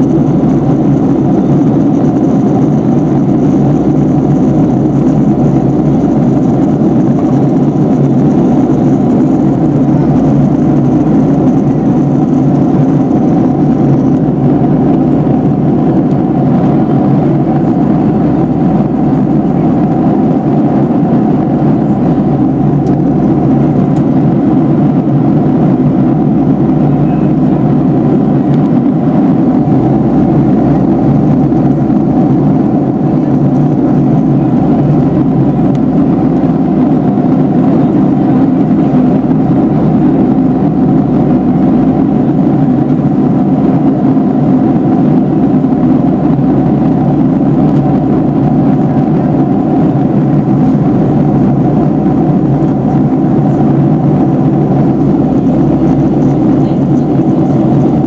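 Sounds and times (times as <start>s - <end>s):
airliner cabin engine drone: 0.0s - 58.0s.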